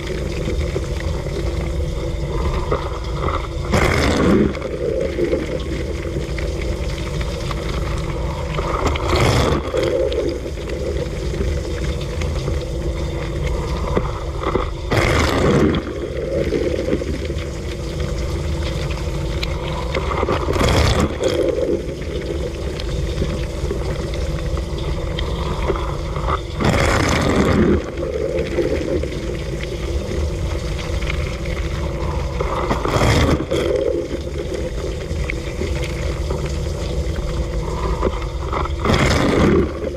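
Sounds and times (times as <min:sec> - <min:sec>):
water spraying and sloshing: 0:00.0 - 0:39.9.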